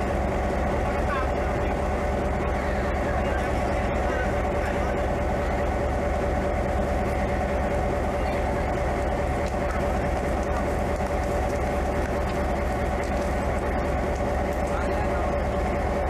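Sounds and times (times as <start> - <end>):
steady hum: 0.0 - 16.0
train rumbling: 0.0 - 16.0.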